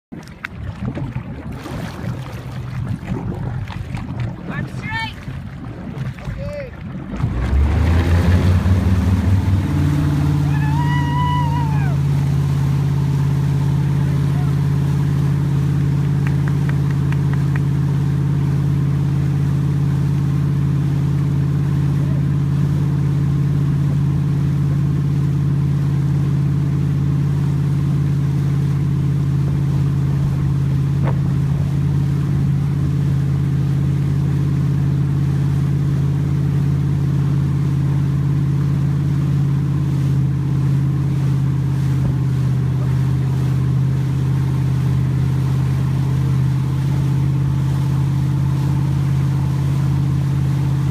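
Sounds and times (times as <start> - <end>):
motorboat engine drone: 0.0 - 50.9.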